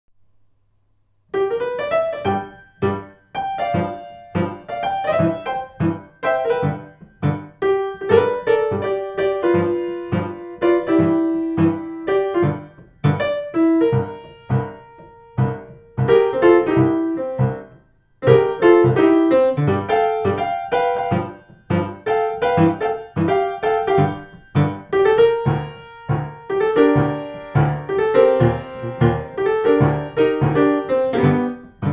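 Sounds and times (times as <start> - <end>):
blues piano music: 1.3 - 31.9.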